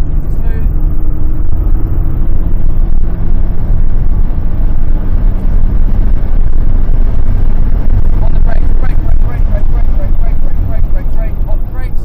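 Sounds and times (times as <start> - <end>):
car engine rumbling: 0.0 - 12.0
road and wind noise: 0.0 - 12.0.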